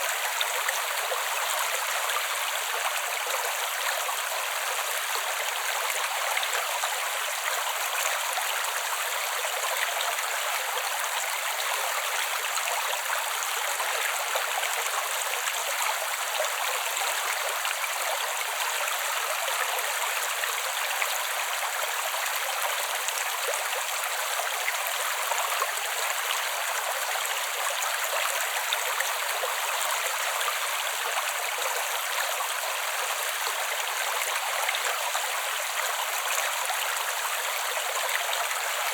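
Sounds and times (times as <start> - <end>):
creek water babbling: 0.0 - 38.9.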